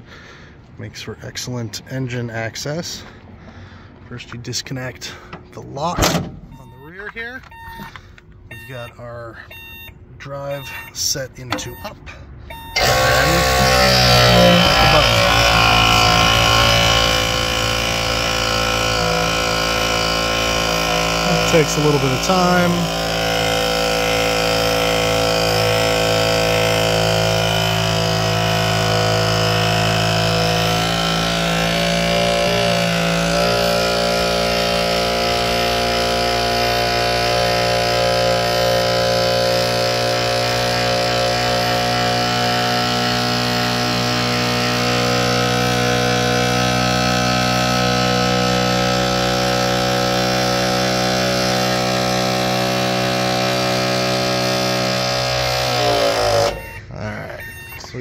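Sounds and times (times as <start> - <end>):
hydraulic pump humming: 5.1 - 58.0.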